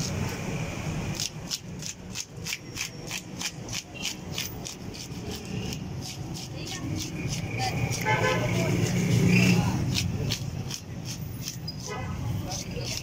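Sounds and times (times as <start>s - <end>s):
fish scaler rasping scales: 1.1s - 13.0s.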